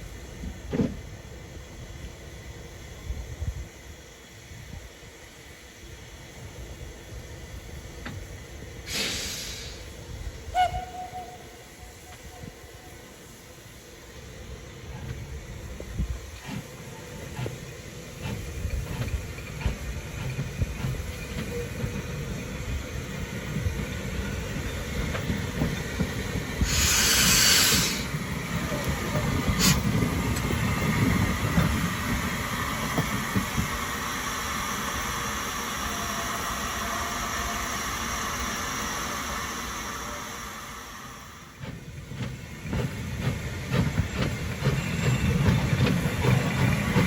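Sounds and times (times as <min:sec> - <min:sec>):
steam hissing: 0:00.0 - 0:47.0
steam locomotive chuffing: 0:00.0 - 0:47.0
train rolling rumble: 0:00.0 - 0:47.0.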